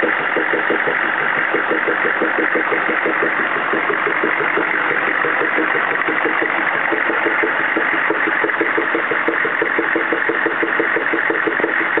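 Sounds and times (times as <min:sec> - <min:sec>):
diesel engine running with popping: 0:00.0 - 0:12.0.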